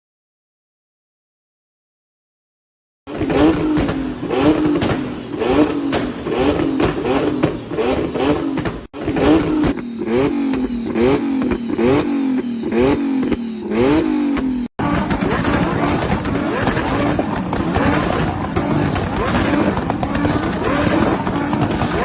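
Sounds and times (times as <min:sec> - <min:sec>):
car engine revving: 0:03.1 - 0:22.0.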